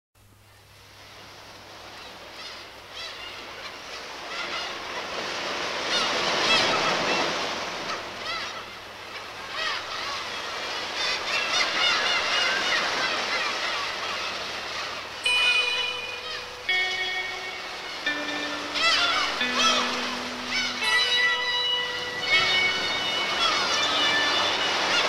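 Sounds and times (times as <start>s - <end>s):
ocean surf: 0.6s - 25.0s
seagull cries: 2.0s - 25.0s.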